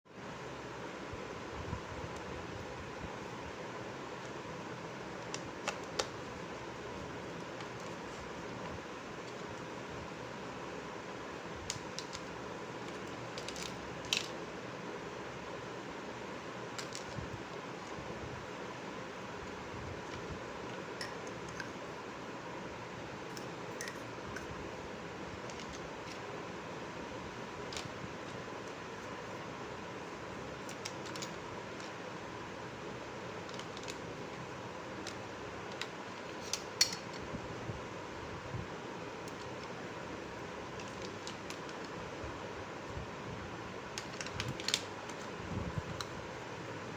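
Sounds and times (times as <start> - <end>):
steady background hiss: 0.1 - 46.9.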